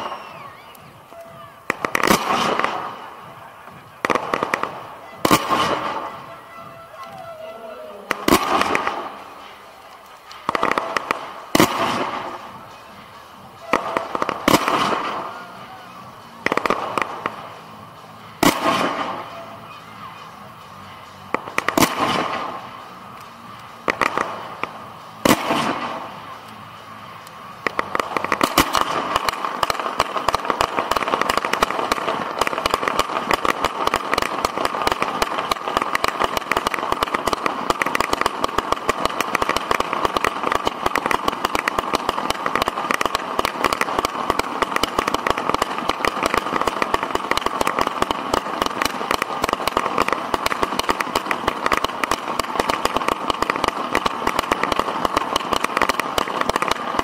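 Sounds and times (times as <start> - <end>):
firework launch pops and crackles: 0.0 - 57.0.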